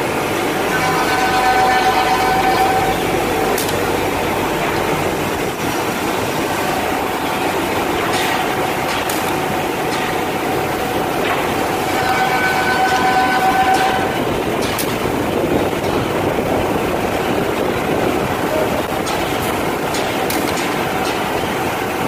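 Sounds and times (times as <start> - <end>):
mortising machine running: 0.0 - 22.0.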